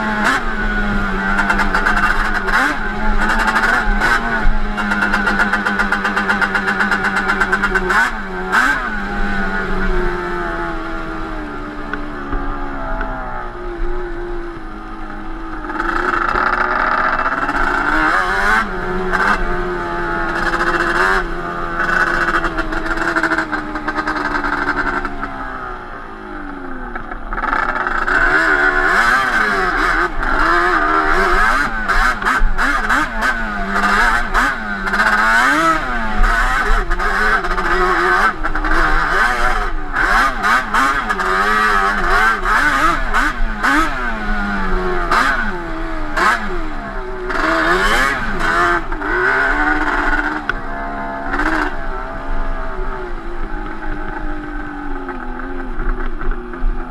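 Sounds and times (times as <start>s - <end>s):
two-stroke engine revving: 0.0s - 56.9s.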